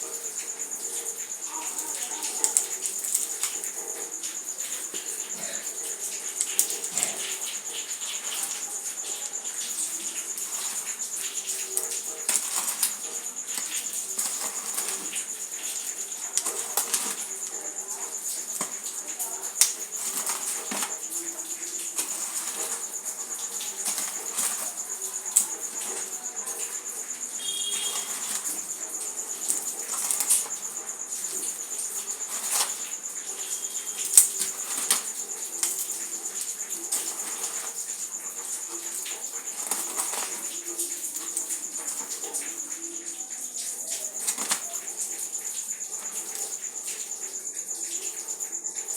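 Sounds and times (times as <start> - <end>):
insect trilling: 0.0 - 48.9
dry material crumbling: 1.5 - 47.2.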